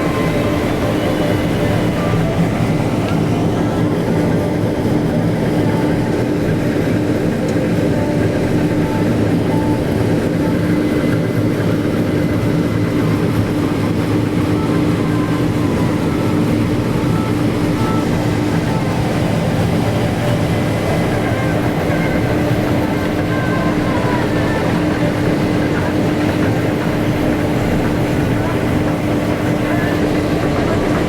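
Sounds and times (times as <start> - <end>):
harvesting machinery droning: 0.0 - 31.0.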